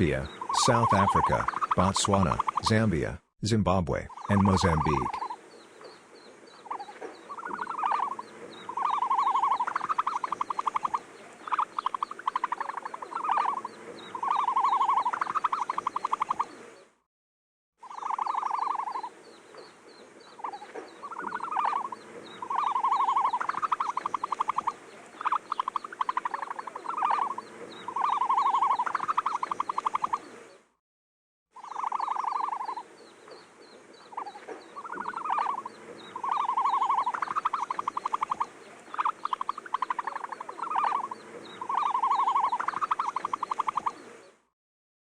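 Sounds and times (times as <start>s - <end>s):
animal calls with rattling trills: 4.1s - 16.9s, 17.8s - 30.3s, 31.6s - 44.4s.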